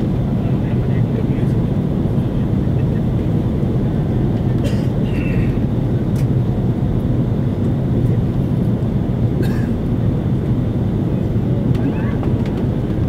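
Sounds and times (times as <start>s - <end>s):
jet engines and rushing air: 0.0s - 13.0s.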